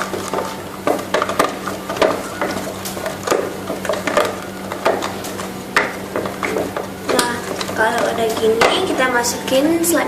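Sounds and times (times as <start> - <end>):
stirrer scraping against bowl: 0.0 - 9.7
steady low hum: 0.0 - 10.0.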